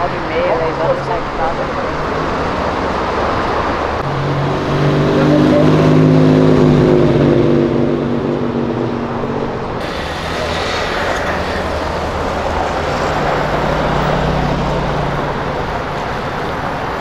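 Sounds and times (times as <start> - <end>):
background traffic noise: 0.0 - 17.0.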